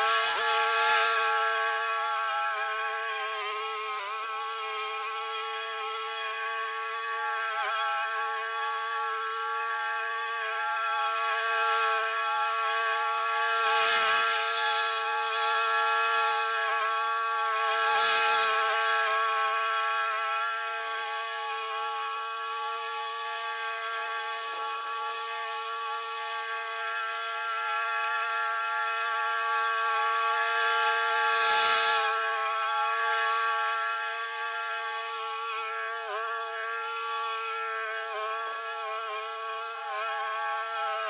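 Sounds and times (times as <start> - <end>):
lawn mower cutting grass: 0.0 - 41.0.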